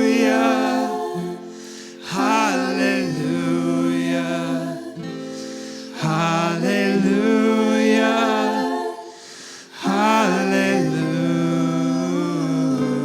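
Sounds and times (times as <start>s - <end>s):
singers holding long notes: 0.0s - 5.1s, 6.0s - 13.0s.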